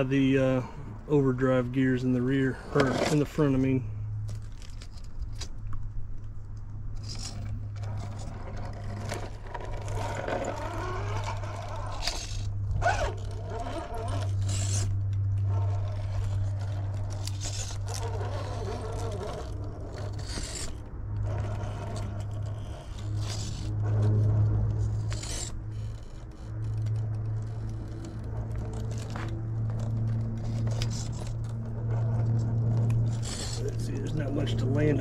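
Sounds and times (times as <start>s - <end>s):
electric motor and drivetrain hum: 0.0s - 35.0s
tyres scraping and clicking on rock: 2.4s - 35.0s.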